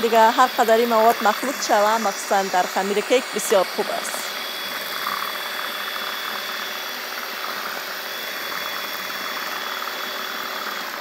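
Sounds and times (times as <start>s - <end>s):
electric hand mixer whisking: 0.0s - 11.0s.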